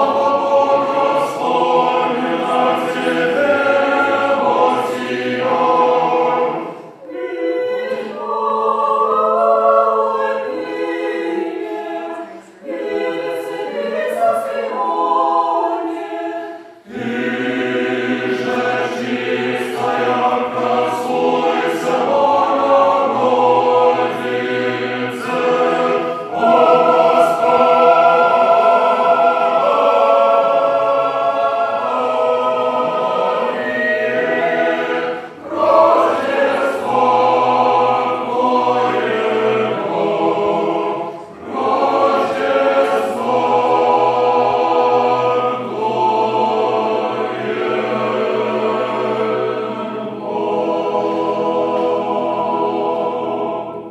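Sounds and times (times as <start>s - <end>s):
mixed choir singing a cappella: 0.0s - 53.9s.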